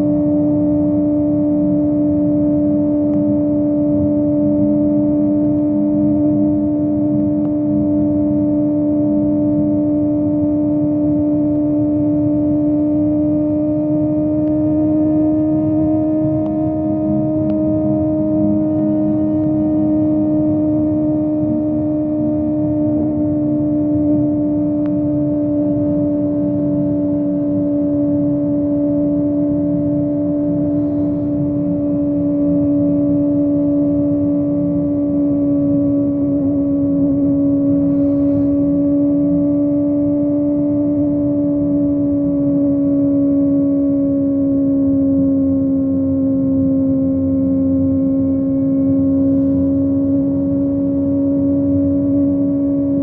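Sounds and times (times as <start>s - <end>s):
motorcycle engine at high revs: 0.0s - 53.0s
wind and road rumble: 0.0s - 53.0s.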